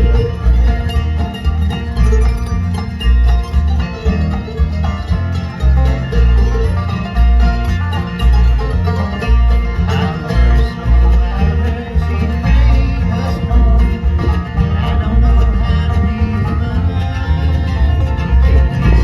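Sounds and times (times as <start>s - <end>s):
bluegrass band playing: 0.0s - 19.0s.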